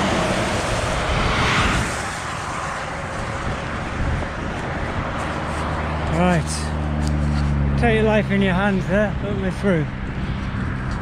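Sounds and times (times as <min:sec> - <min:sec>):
cars rushing past: 0:00.0 - 0:11.0.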